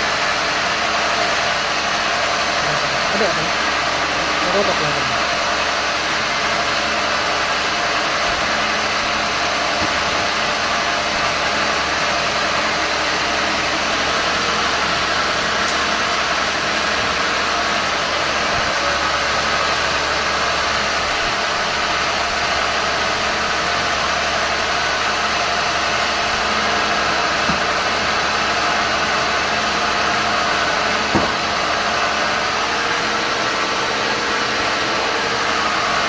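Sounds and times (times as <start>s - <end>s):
cotton candy machine whirring: 0.0s - 36.0s.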